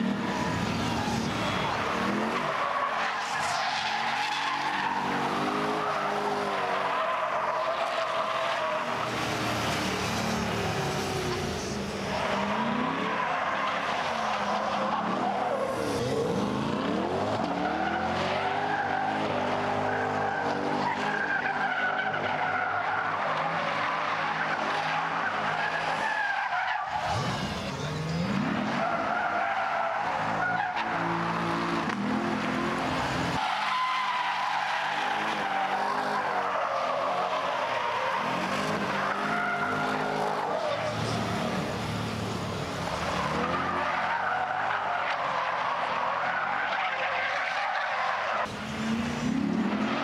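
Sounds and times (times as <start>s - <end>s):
car engine revving: 0.0s - 26.0s, 26.8s - 46.5s, 48.2s - 50.0s.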